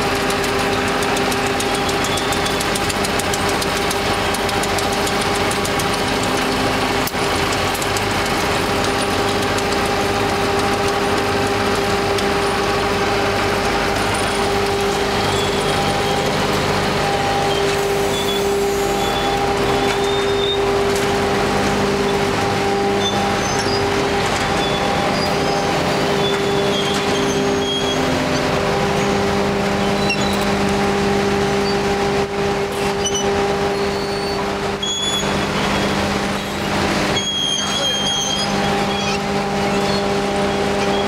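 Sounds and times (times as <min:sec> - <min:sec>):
industrial shredding machine running: 0:00.0 - 0:41.0.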